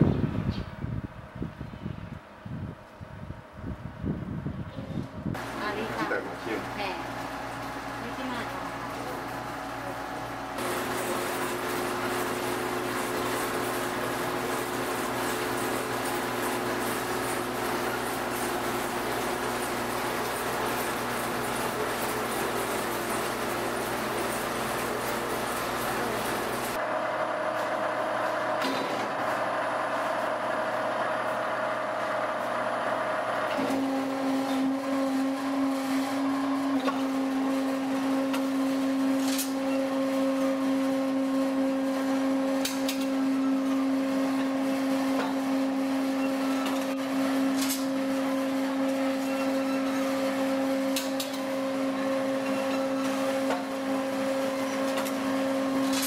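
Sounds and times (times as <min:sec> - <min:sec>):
noodle machine motor hum: 0:05.0 - 0:56.0.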